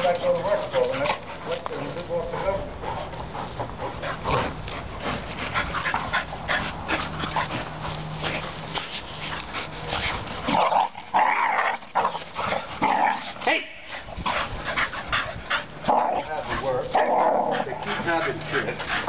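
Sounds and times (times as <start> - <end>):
dogs scuffling and snapping: 0.0 - 19.0
dogs vocalizing: 0.0 - 19.0.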